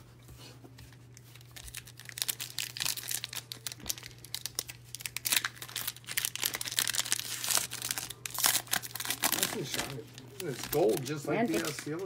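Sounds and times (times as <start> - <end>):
plastic wrapper crinkling and tearing: 1.2 - 12.0.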